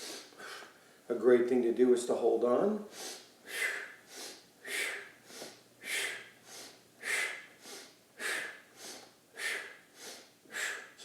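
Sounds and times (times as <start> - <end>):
man breathing rhythmically: 0.0 - 1.0, 2.9 - 11.0.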